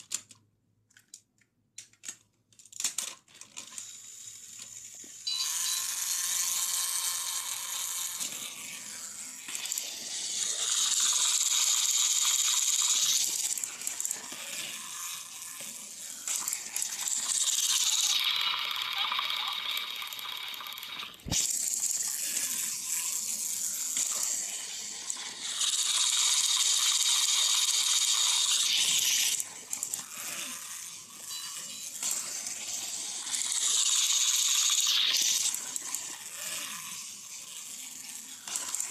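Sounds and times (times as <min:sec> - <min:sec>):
toy trains whirring and rattling: 0:01.8 - 0:38.9.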